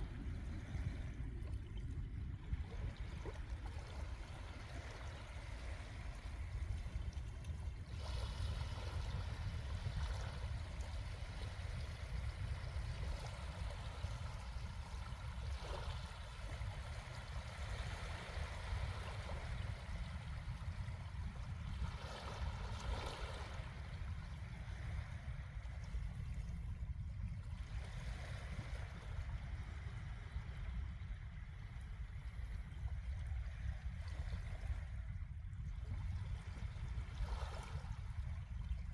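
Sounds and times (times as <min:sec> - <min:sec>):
small waves washing onto beach: 0:00.0 - 0:35.2, 0:35.9 - 0:38.9.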